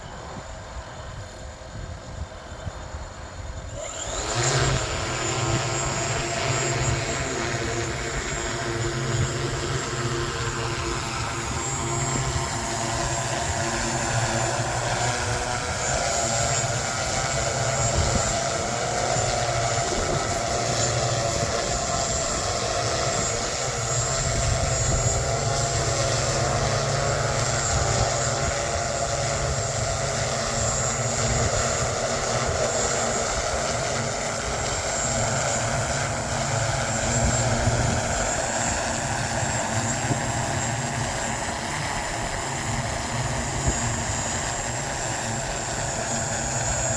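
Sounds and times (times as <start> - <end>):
aircraft propellers running: 0.0 - 46.9
wind buffeting microphone: 0.0 - 46.9.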